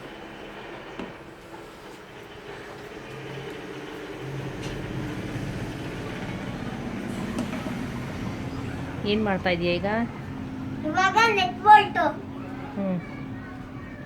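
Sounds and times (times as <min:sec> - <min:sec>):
engine-like hum: 0:00.0 - 0:14.0.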